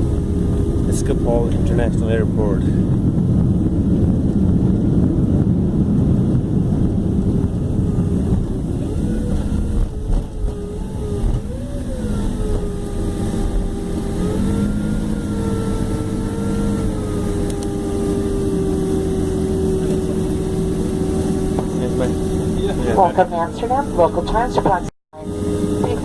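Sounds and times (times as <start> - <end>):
jet engine hum: 0.0 - 26.0
rumble of jet rolling on runway: 0.0 - 26.0.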